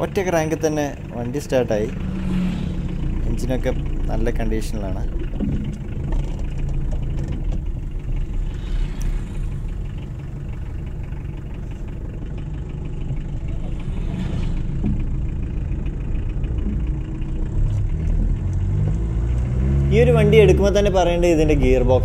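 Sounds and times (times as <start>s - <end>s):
diesel engine running: 0.0s - 22.0s
tyre and road noise: 0.0s - 22.0s.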